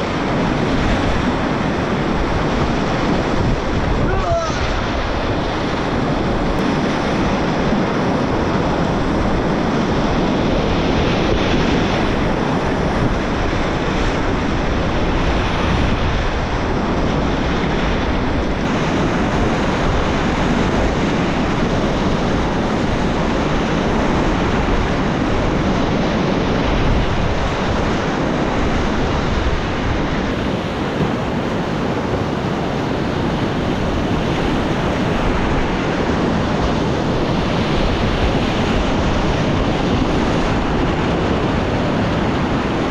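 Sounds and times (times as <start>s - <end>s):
whitewater rushing: 0.0s - 42.9s
wind buffeting microphone: 0.0s - 42.9s.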